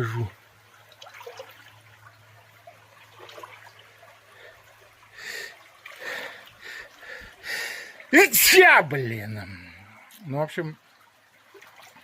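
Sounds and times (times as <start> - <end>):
stream trickling: 0.0 - 12.0.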